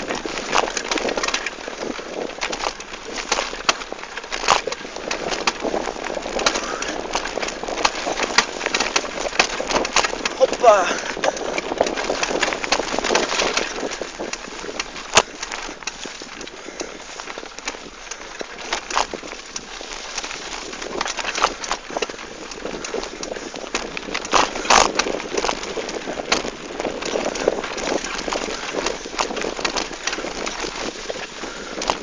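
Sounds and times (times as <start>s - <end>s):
bike tyres rustling through grass: 0.0s - 32.0s
small rattling clicks: 0.0s - 32.0s.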